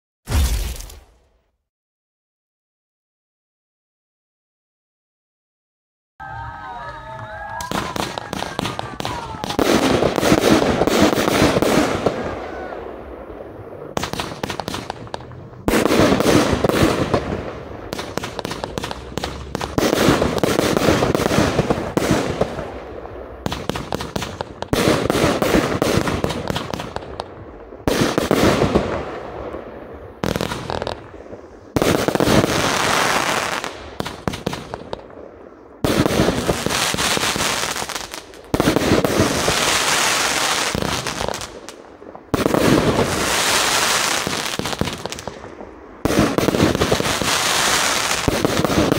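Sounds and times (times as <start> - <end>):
fireworks firing in rapid volleys: 7.4 - 48.9.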